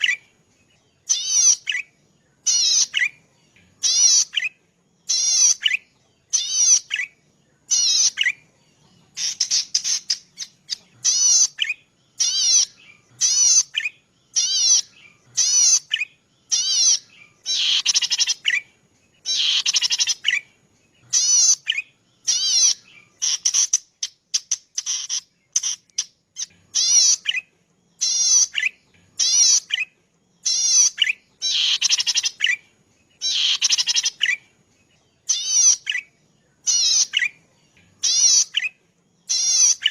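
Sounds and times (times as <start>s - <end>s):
bird singing buzzy trills: 0.0s - 39.9s.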